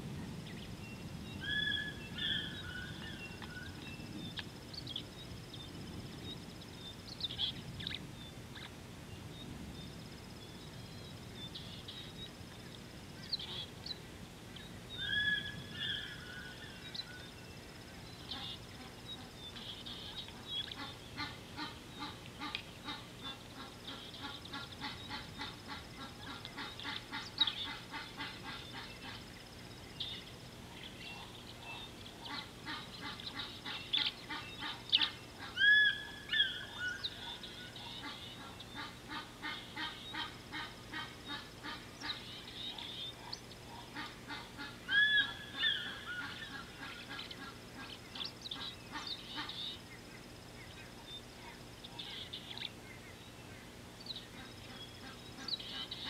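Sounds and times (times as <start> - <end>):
birds calling: 0.5 - 56.0.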